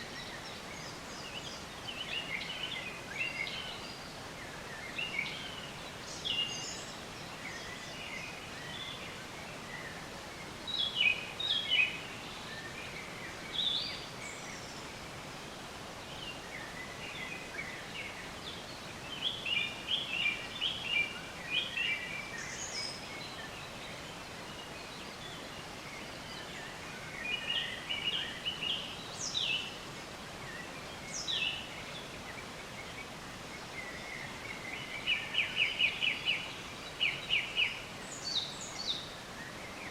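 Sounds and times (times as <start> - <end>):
songbirds chirping and trilling: 0.0 - 39.9
steady outdoor hiss: 0.0 - 39.9.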